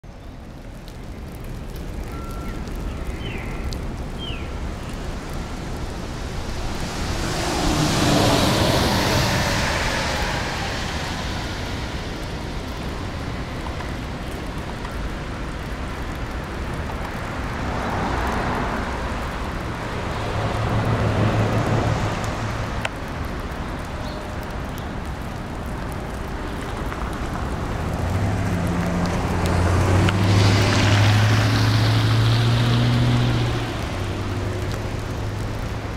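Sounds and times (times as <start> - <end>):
tyres hissing on wet street: 0.1 - 35.9.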